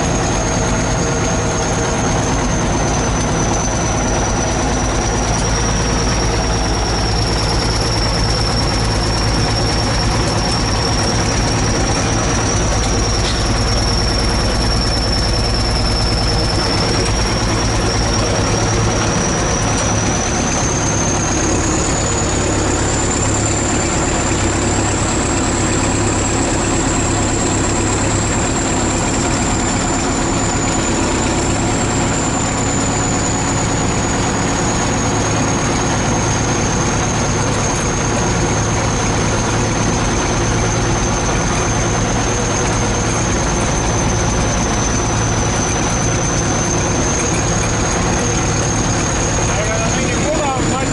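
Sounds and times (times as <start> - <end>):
bulldozer diesel engine running: 0.0 - 50.9
thin high whine: 0.0 - 50.9.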